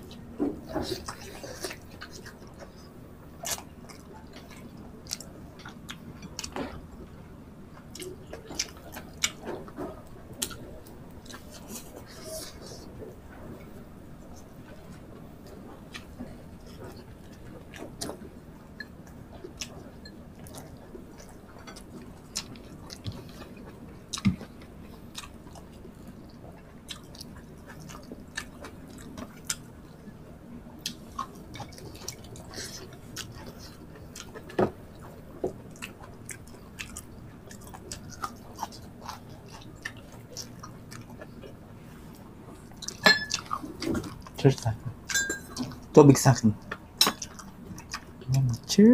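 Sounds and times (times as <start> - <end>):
faint steady hum: 0.0 - 48.9
people chewing food: 0.0 - 48.9.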